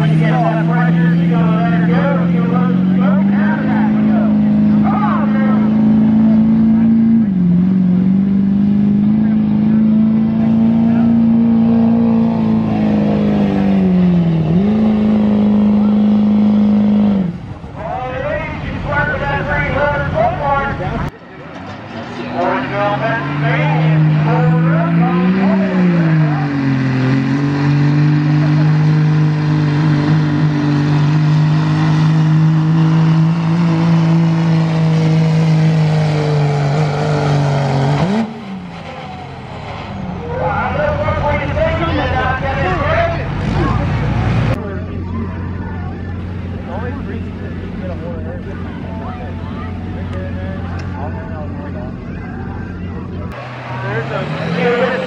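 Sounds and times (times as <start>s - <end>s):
diesel truck engine under load: 0.0s - 55.0s.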